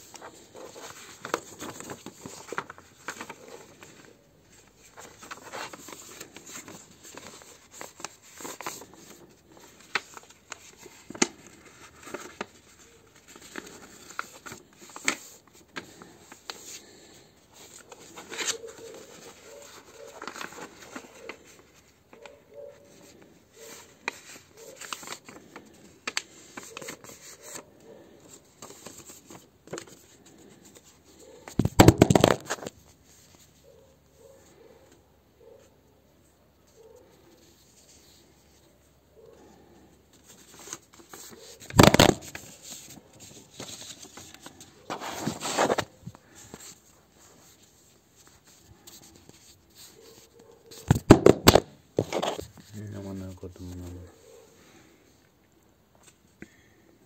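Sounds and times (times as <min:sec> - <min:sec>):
paper folding and creasing: 0:00.0 - 0:33.7, 0:36.7 - 0:38.8, 0:40.1 - 0:54.3
paper rustle: 0:00.0 - 0:35.0, 0:36.3 - 0:38.8, 0:39.4 - 0:54.4.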